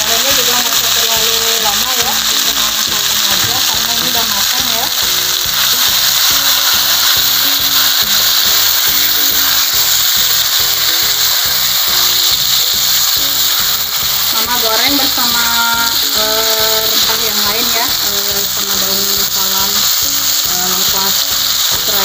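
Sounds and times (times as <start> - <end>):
tripe sizzling in a pan: 0.0 - 22.0.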